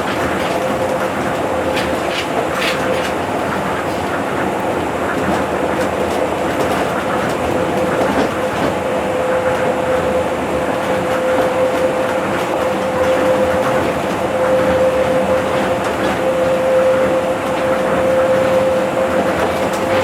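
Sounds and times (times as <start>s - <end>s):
monorail train rumble: 0.0s - 20.0s.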